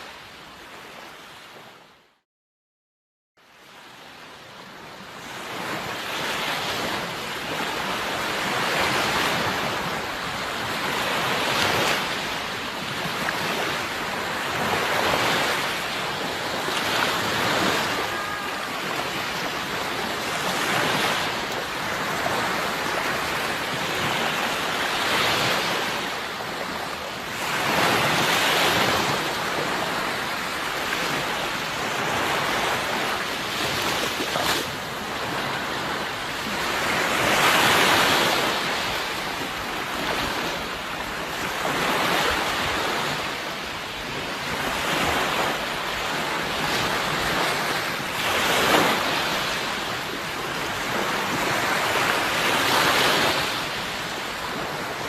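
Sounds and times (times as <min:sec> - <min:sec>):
sea waves washing onto shore: 0:04.2 - 0:55.0.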